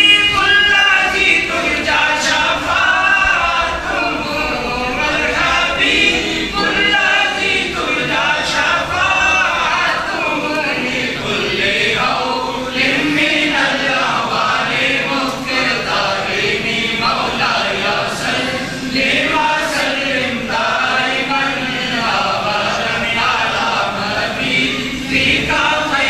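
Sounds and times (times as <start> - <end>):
men chanting in unison: 0.3 - 26.0.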